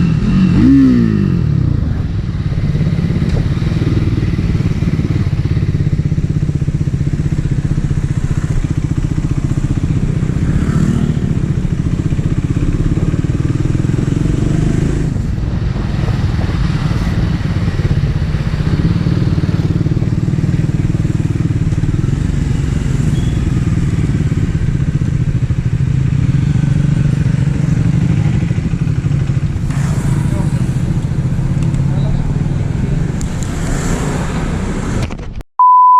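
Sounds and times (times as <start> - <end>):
motorcycle engine running: 0.0 - 33.3.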